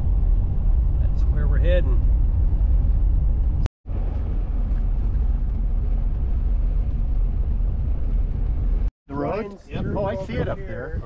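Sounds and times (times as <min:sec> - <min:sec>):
tyres and engine rumble on gravel: 0:00.0 - 0:10.7.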